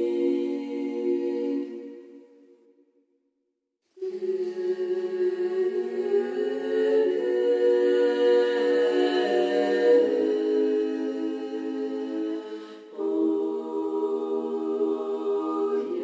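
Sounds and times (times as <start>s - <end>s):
a cappella choral chant: 0.0s - 2.7s, 4.0s - 16.0s.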